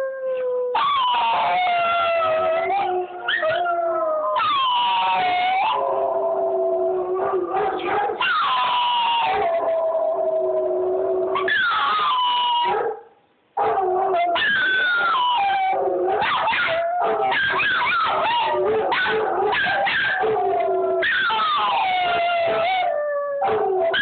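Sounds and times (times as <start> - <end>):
dogs howling: 0.0 - 12.9, 13.6 - 24.0.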